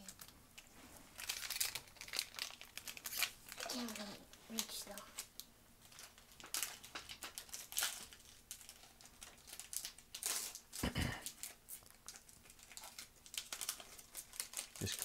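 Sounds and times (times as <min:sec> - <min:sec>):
foil wrapper crinkling and tearing: 0:01.2 - 0:15.0.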